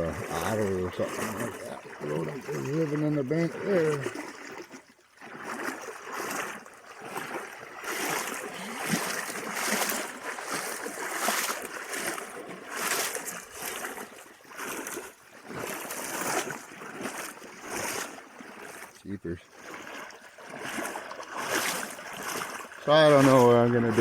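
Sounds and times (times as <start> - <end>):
running creek: 0.0 - 24.0
water splashing and sloshing: 0.0 - 24.0.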